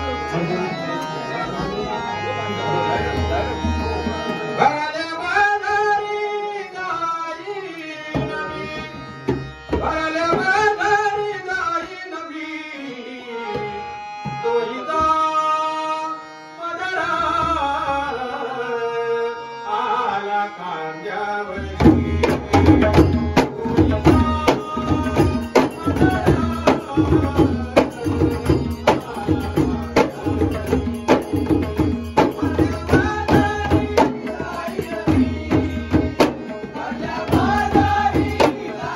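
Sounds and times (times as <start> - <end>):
man singing: 3.9 - 38.9.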